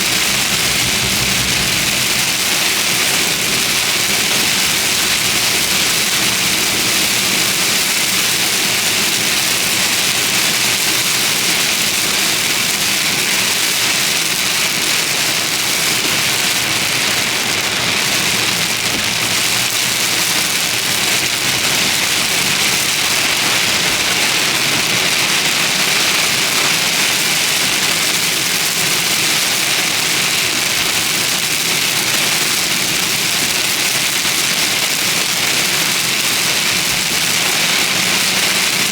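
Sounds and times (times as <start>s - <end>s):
heavy rain pelting a car: 0.0s - 38.9s
road and engine noise: 0.0s - 38.9s.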